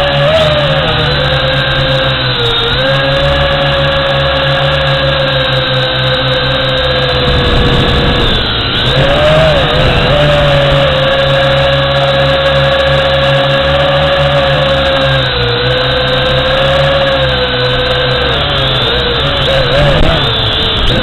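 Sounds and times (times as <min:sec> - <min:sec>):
drone propellers whining: 0:00.0 - 0:21.0
low hum: 0:00.0 - 0:21.0.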